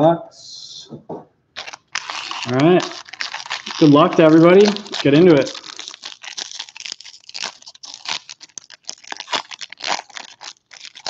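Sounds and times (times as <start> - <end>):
foil wrapper tearing and crinkling: 1.6 - 11.0.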